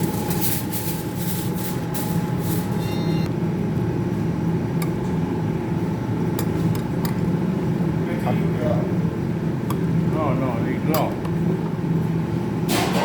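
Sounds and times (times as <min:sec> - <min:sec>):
mechanical hum with whine: 0:00.0 - 0:13.0.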